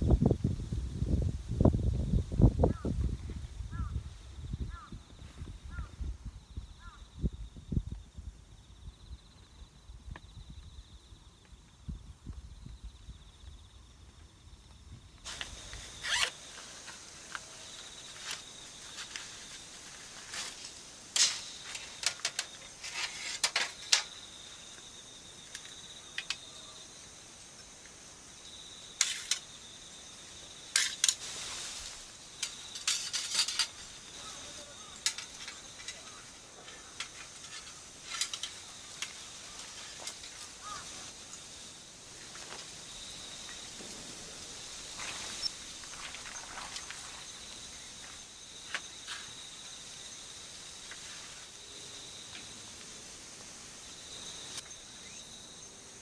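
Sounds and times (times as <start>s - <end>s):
high insect drone: 0.1s - 56.0s.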